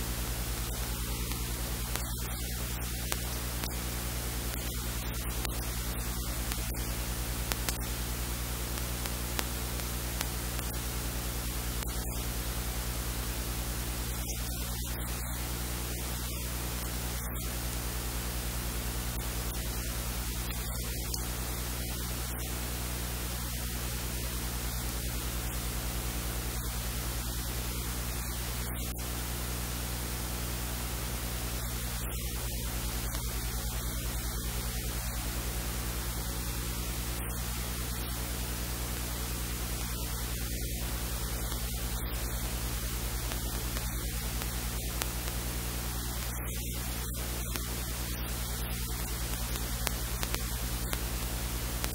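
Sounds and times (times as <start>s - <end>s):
electrical hiss: 0.0s - 51.9s
low mains hum: 0.0s - 51.9s.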